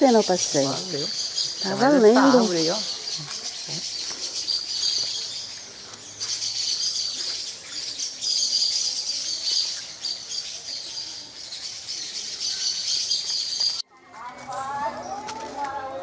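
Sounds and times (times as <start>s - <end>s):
chorus of birds and insects: 0.0s - 16.0s.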